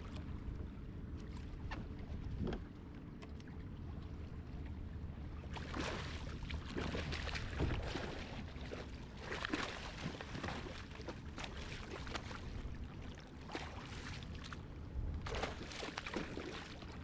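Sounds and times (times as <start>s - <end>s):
low steady rumble: 0.0s - 17.0s
water sloshing around boat: 0.0s - 17.0s.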